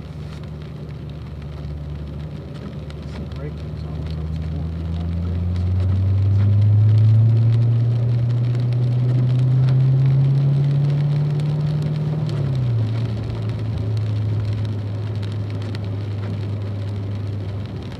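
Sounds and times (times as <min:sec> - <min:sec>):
car engine under power: 0:00.0 - 0:17.9.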